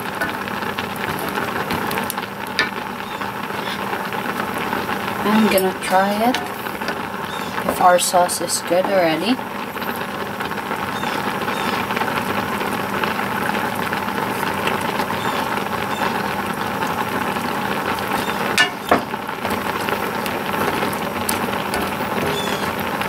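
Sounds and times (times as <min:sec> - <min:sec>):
sauce bubbling in a skillet: 0:00.0 - 0:23.0.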